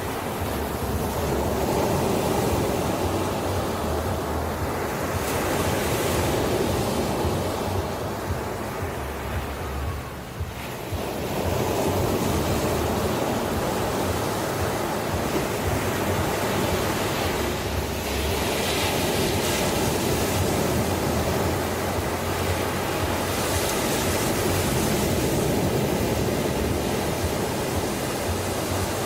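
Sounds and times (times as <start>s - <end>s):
ocean waves roaring: 0.0s - 29.0s.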